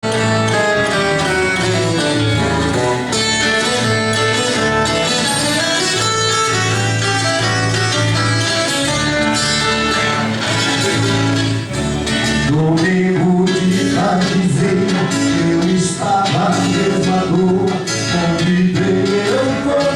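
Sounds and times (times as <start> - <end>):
low bass notes: 0.0 - 19.8
plucked acoustic guitars: 0.0 - 19.9.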